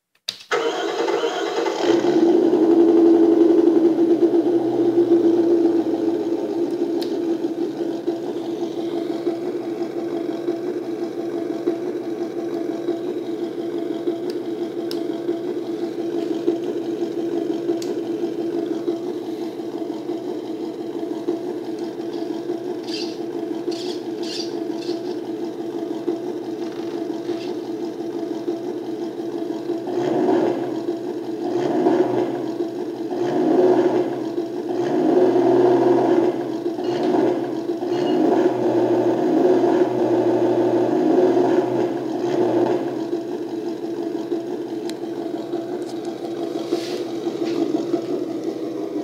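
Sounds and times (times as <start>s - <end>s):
diesel idle from small speaker: 0.5s - 29.9s, 30.5s - 31.5s, 32.2s - 33.1s, 34.1s - 34.7s, 36.3s - 38.0s, 41.8s - 49.0s.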